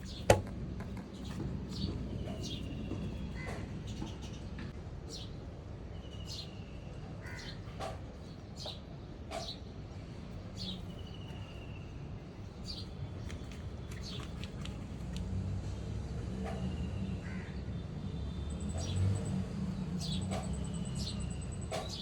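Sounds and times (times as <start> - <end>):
small birds chirping: 0.0 - 5.4, 6.0 - 15.3, 18.5 - 22.0.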